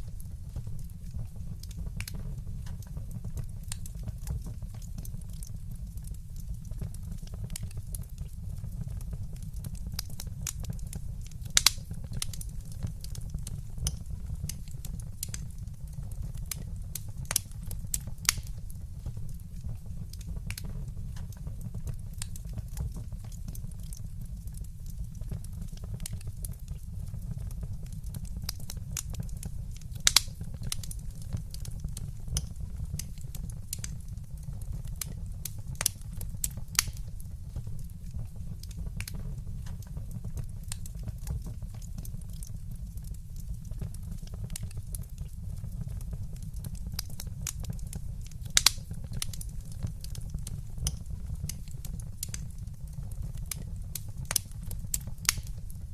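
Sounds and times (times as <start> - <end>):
fire crackling and popping: 0.0 - 55.9
fire rumbling: 0.0 - 55.9.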